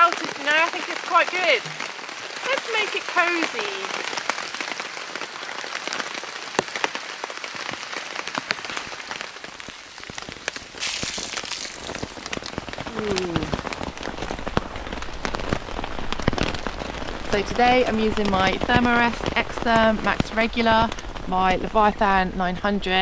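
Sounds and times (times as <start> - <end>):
rain on a nylon tarp: 0.0 - 23.0.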